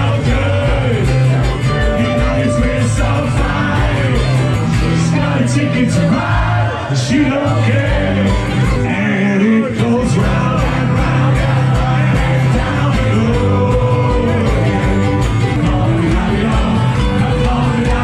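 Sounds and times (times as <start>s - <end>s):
steady drum beat: 0.0s - 8.8s, 10.1s - 18.0s
bass guitar: 0.0s - 18.0s
electric guitar: 0.0s - 18.0s
person singing: 0.0s - 18.0s.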